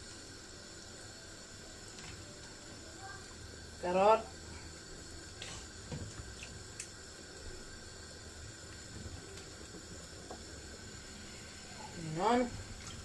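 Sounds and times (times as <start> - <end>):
broth boiling with low hiss: 0.0 - 13.0.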